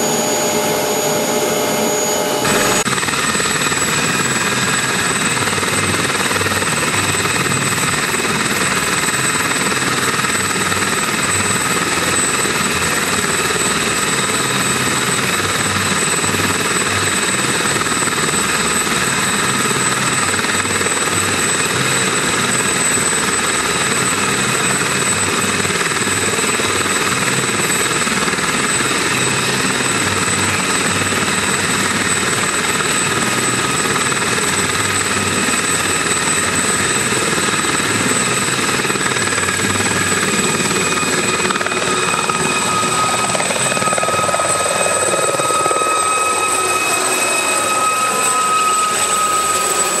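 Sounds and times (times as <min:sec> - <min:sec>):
helicopter rotor noise: 0:00.0 - 0:50.0
helicopter turbine whine: 0:00.0 - 0:50.0.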